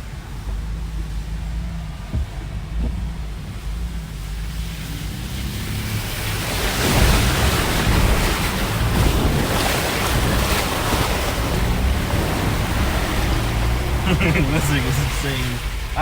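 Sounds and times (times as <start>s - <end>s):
engine running low: 0.0s - 16.0s
water splashing against vehicle: 0.0s - 16.0s.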